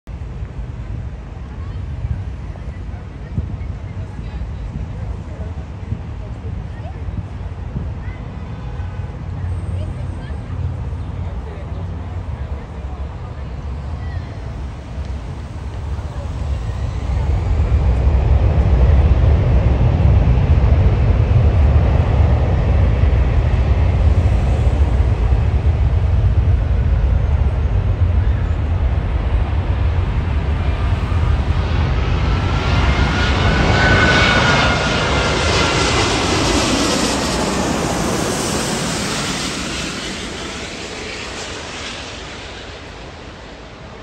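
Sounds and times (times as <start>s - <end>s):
jet engine rumble and whine: 0.1s - 44.0s.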